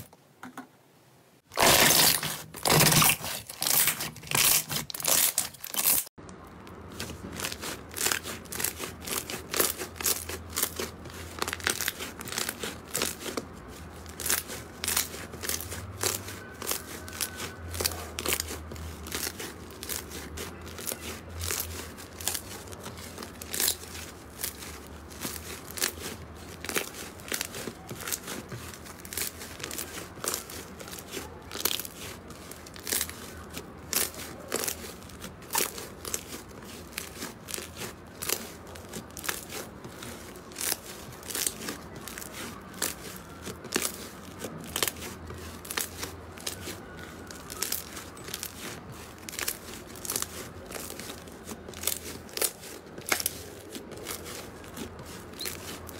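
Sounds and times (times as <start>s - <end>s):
slime crackling and popping: 1.5s - 55.9s.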